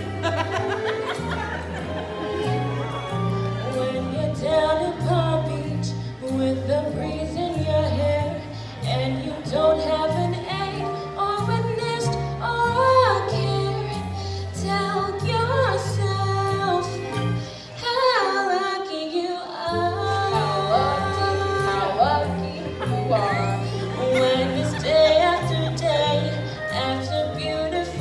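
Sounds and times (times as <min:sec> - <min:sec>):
instrumental accompaniment with bass: 0:00.0 - 0:18.4, 0:19.6 - 0:28.0
woman singing show tune: 0:03.5 - 0:28.0.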